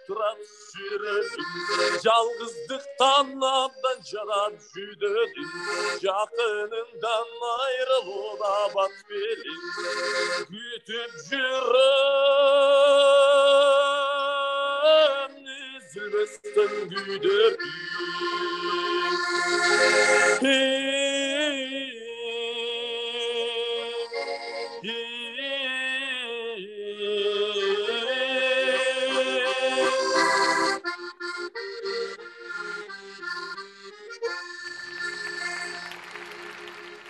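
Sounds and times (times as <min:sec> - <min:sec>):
piano accordion playing folk song: 0:00.0 - 0:11.7, 0:12.6 - 0:26.0, 0:26.9 - 0:37.0.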